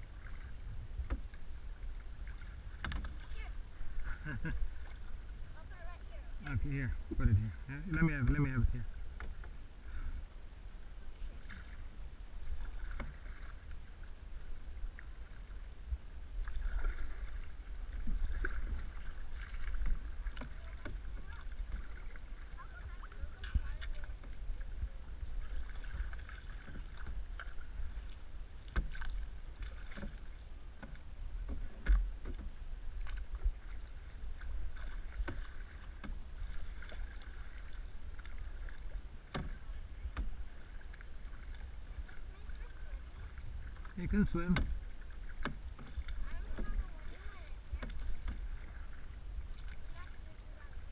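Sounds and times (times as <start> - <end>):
paddle splashing through water: 0.0 - 50.9
water lapping on hull: 0.0 - 50.9
wind rumble on microphone: 0.0 - 50.9.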